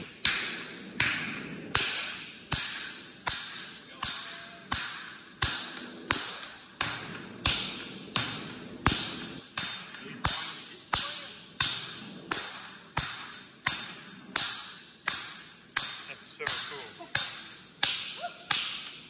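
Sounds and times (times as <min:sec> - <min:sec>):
hammer striking steel on anvil: 0:00.0 - 0:19.0.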